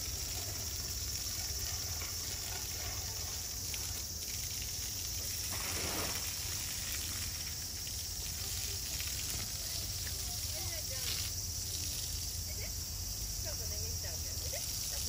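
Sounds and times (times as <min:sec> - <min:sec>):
hose water spraying and splashing: 0:00.0 - 0:15.0.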